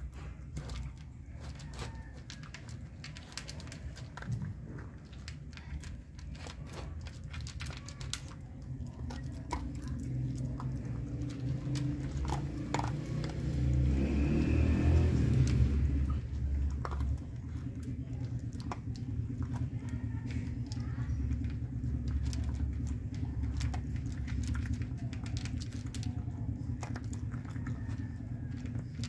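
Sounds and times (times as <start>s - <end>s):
dog crunching dry kibble: 0.0s - 29.0s.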